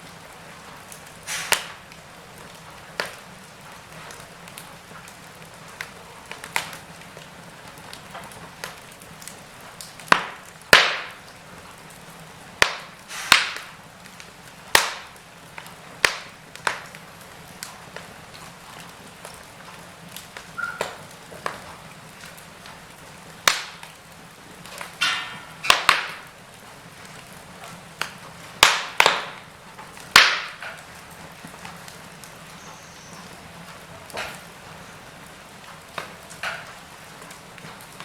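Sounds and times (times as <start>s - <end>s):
wood fire crackling: 0.0s - 38.0s
fire sputtering hiss: 0.1s - 38.0s.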